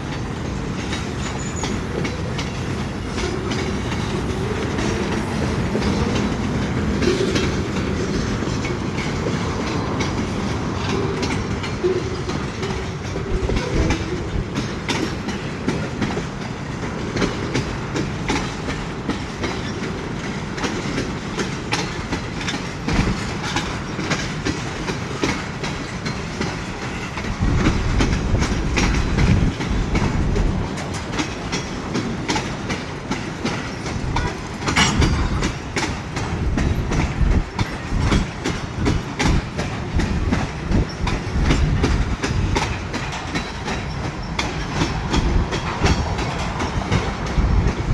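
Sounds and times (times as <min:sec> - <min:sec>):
freight train rumbling: 0:00.0 - 0:47.9
wheel clicks over rail joints: 0:00.1 - 0:47.8.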